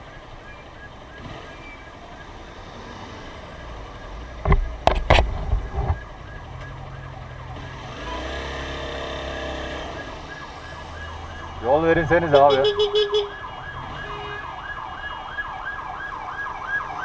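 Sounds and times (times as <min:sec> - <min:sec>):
ambulance siren: 0:00.0 - 0:17.0
traffic noise: 0:00.0 - 0:17.0.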